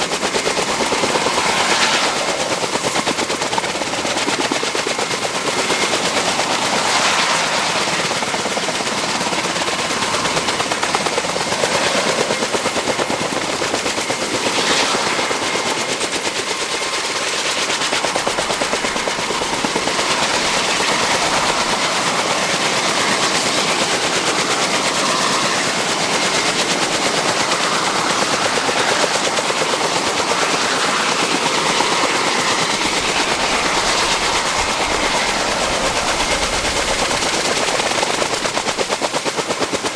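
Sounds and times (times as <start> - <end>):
helicopter rotor chop: 0.0 - 39.9.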